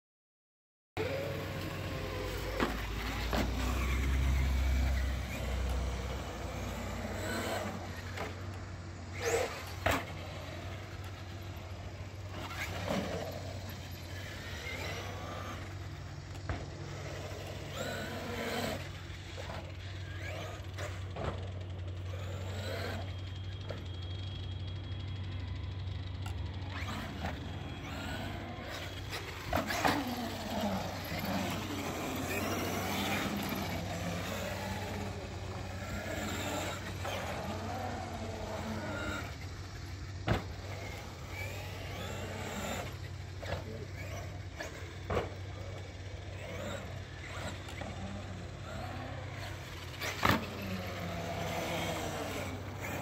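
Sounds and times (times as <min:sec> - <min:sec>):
electric motor whining: 0:01.0 - 0:53.0.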